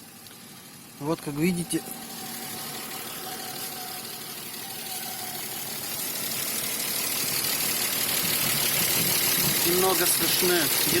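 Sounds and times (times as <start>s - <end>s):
car engine idling: 0.0s - 11.0s
faint ticking of lifters: 0.0s - 11.0s
engine knocking: 0.3s - 11.0s.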